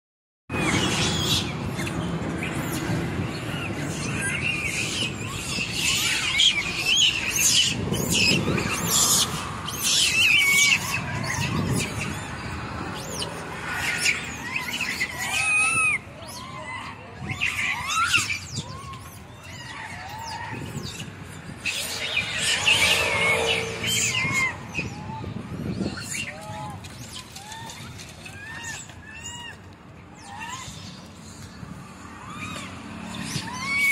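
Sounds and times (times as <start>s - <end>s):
monkeys squealing and chirping: 0.5s - 33.9s.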